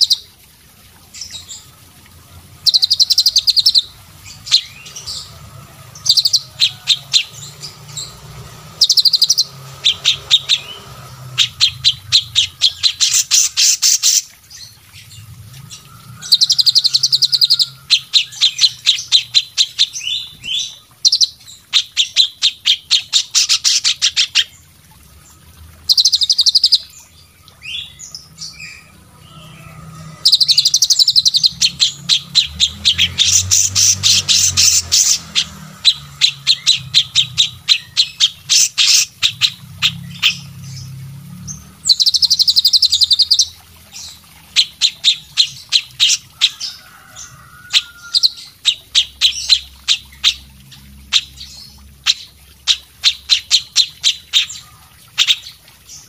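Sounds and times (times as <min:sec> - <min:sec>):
caged songbirds singing: 0:00.0 - 0:56.0.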